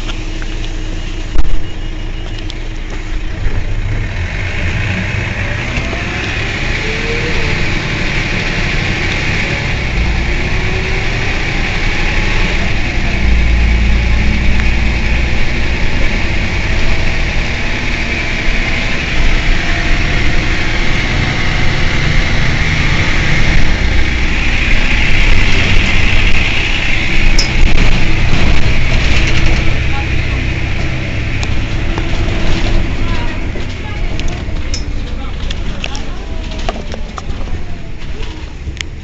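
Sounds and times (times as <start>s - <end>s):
diesel bus engine idling: 0.0s - 39.0s.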